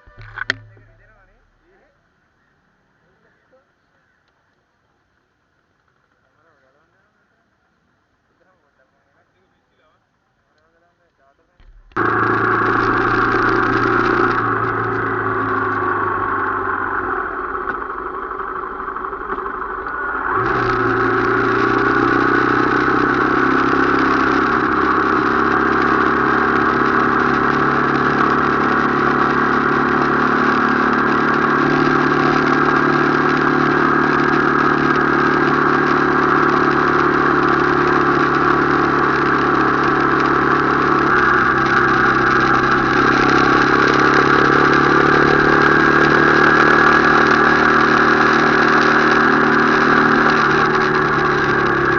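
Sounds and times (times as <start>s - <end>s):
motorcycle engine running: 0.0s - 1.8s, 11.6s - 51.9s.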